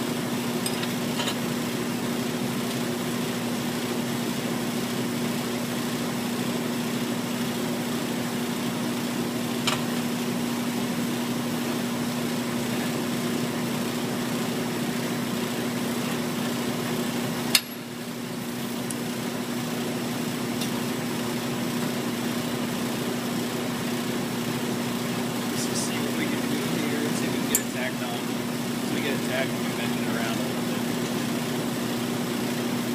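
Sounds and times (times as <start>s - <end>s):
fan noise: 0.0s - 32.9s
machine hum: 3.0s - 32.9s.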